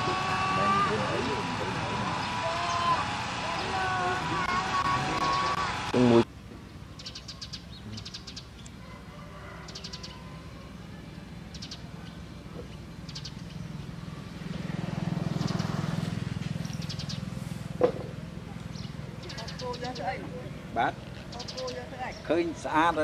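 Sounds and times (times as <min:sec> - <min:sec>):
low engine hum: 0:00.0 - 0:09.1, 0:10.0 - 0:23.0.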